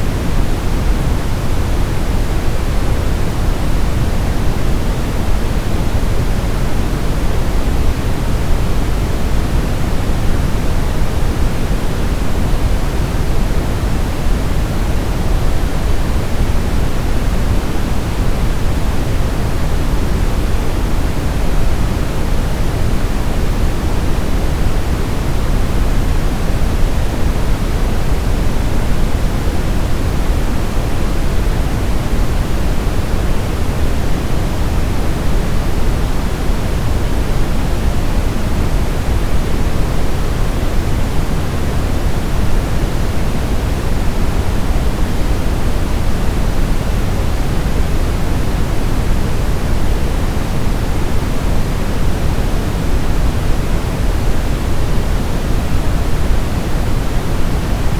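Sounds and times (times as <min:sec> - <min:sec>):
steady rushing white noise: 0:00.0 - 0:57.9.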